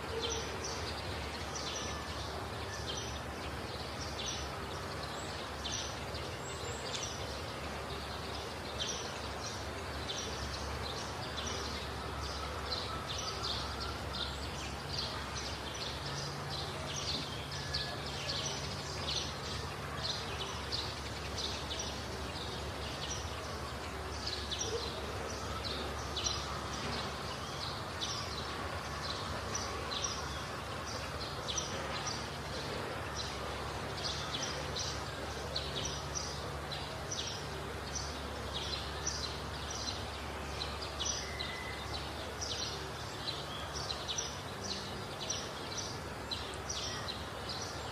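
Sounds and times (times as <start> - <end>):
background noise: 0.0 - 47.9.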